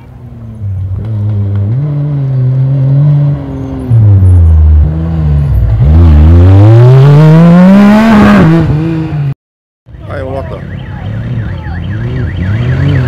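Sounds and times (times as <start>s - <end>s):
buggy engine revving: 0.6s - 9.4s, 11.1s - 13.0s.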